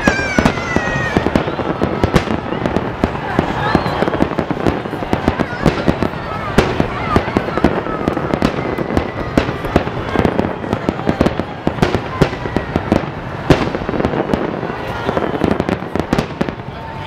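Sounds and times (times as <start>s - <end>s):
faint firework whistles: 0.0s - 16.6s
fireworks crackling: 0.0s - 17.0s.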